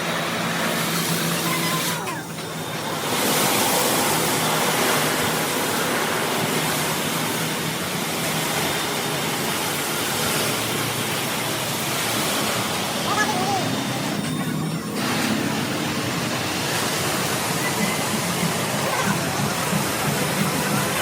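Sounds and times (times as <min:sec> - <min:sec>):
car wash spray rushing hiss: 0:00.0 - 0:21.0.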